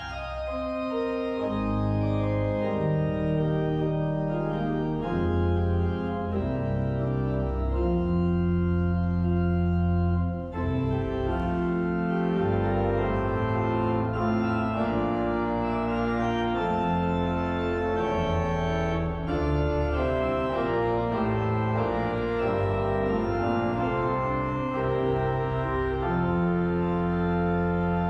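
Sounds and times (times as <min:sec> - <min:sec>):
pipe organ chords: 0:00.0 - 0:28.0.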